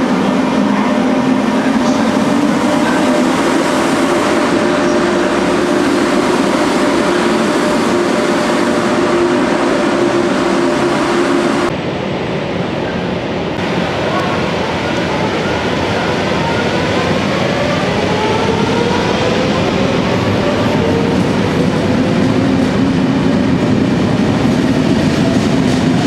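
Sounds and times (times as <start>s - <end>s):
train rolling rush: 0.0s - 26.0s.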